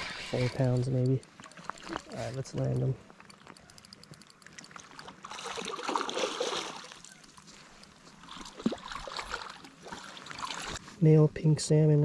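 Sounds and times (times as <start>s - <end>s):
fish splashing and thrashing: 0.0s - 10.8s.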